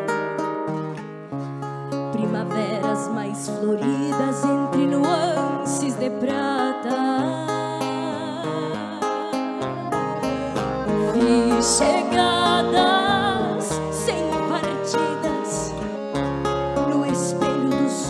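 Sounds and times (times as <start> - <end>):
slow folk ballad ensemble: 0.0 - 18.0.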